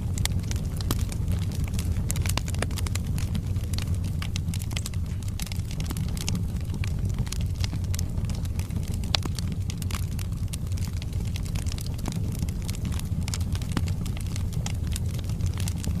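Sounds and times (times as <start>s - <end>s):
fire flames rumbling: 0.0s - 16.0s
logs crackling and popping: 0.0s - 16.0s.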